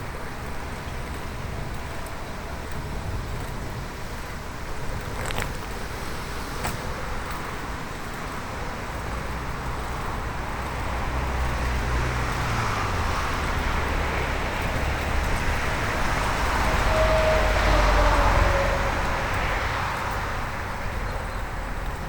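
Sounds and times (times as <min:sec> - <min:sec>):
motor vehicle hum: 0:00.0 - 0:22.0
wind and tyre rush: 0:00.0 - 0:22.0.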